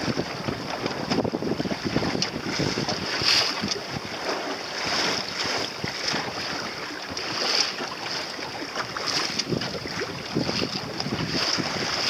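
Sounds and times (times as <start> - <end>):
water slapping against boat hull: 0.0 - 12.0
wind on microphone: 0.0 - 12.0.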